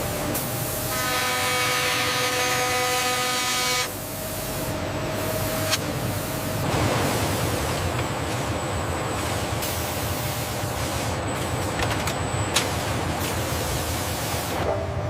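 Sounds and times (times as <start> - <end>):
machinery whine: 0.0 - 15.0.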